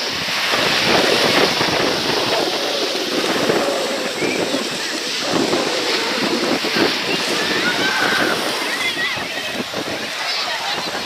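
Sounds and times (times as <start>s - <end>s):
wind blowing: 0.0s - 11.0s.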